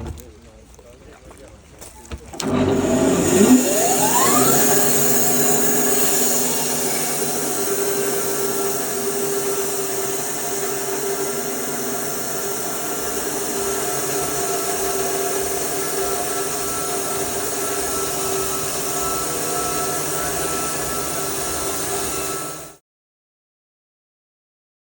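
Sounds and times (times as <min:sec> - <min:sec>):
bandsaw cutting through log: 0:02.4 - 0:22.8.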